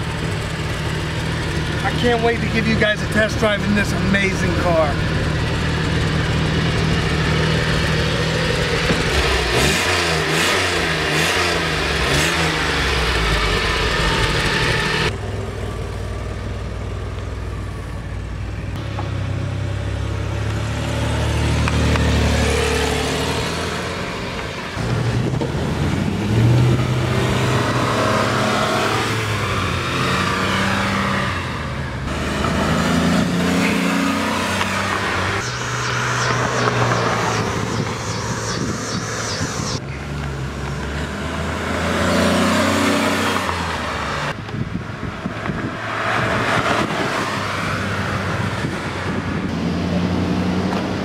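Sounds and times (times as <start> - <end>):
car engine revving: 0.0 - 15.5, 18.8 - 44.4.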